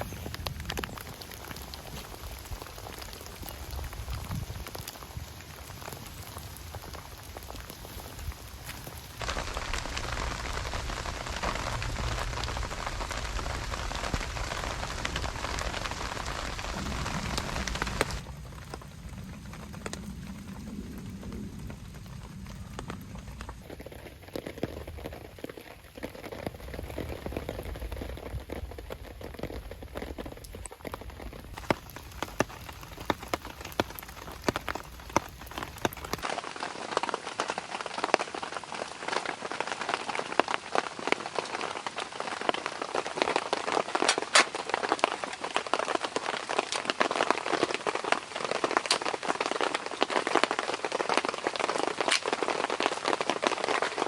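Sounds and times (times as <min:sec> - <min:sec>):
rain drops ticking: 0:00.0 - 0:54.0.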